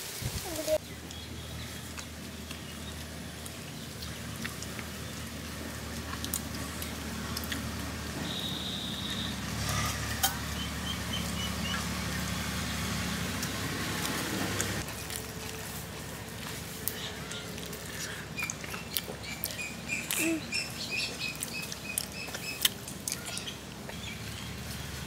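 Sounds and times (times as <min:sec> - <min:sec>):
engine hum: 0:00.4 - 0:25.0.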